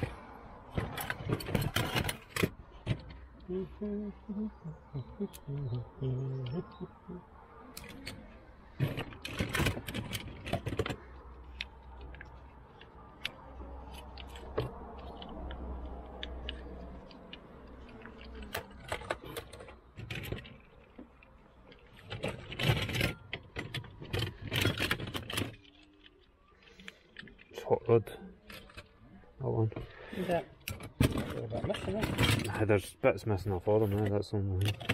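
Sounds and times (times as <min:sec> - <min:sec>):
toy cars clattering in a box: 0:00.0 - 0:03.3, 0:07.8 - 0:29.0, 0:30.1 - 0:34.9.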